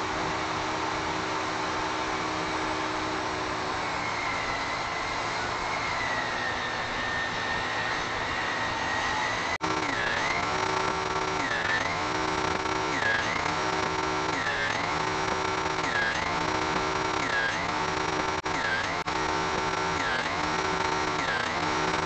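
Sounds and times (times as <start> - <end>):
table saw cutting wood: 1.7 - 22.0.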